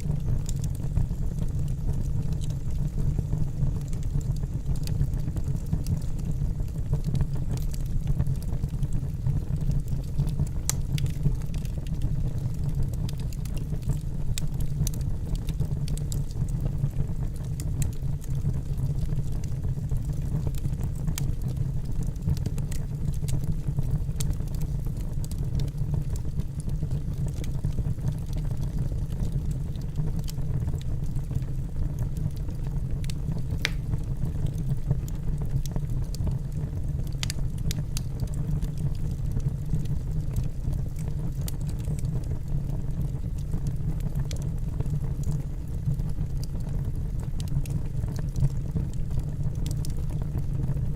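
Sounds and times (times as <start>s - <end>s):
fire flames rumbling: 0.0s - 50.9s
logs crackling and popping: 0.0s - 50.9s.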